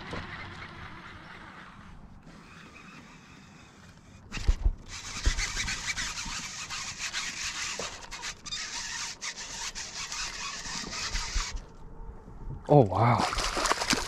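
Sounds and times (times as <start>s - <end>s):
rasping rubbing noise: 0.2s - 11.7s.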